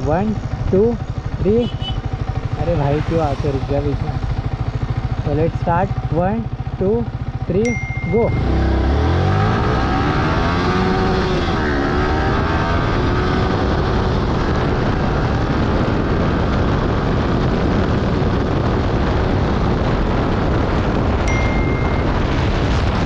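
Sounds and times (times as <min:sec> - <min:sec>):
wind on microphone: 0:00.0 - 0:06.1, 0:07.8 - 0:23.0
motorcycle engine revving: 0:00.0 - 0:23.0.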